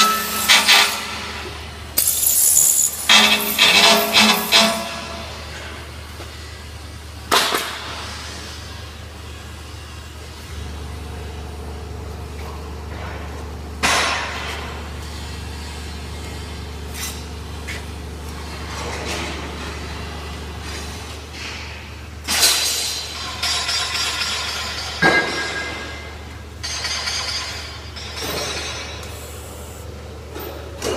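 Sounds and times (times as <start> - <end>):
low machine hum: 0.0 - 30.9.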